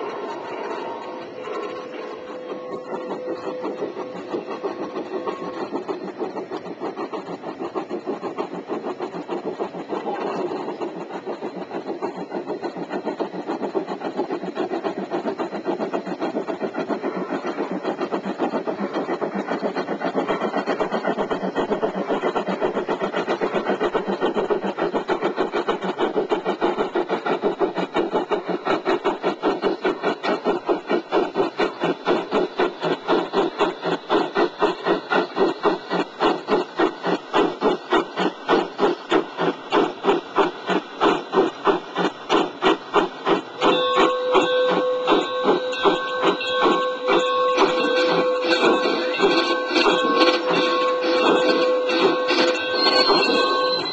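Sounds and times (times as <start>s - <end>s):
model locomotive clattering: 0.0s - 53.9s.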